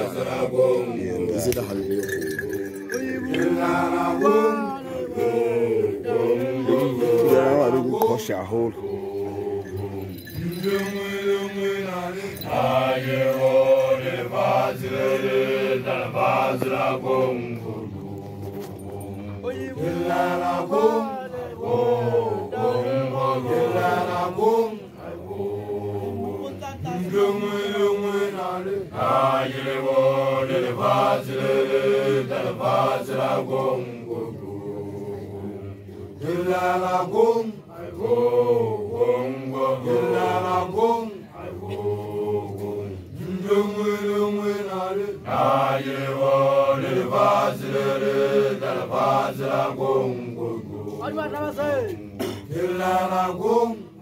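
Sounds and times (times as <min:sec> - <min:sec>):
men chanting a song: 0:00.0 - 0:54.0.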